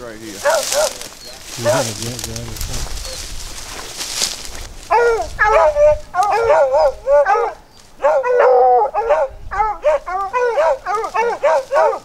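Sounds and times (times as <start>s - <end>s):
dogs barking and baying: 0.3s - 3.8s, 4.8s - 12.0s.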